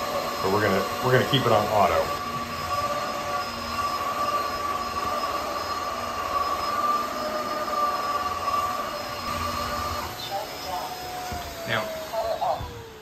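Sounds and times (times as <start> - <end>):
vacuum mop motor whine: 0.0 - 13.0.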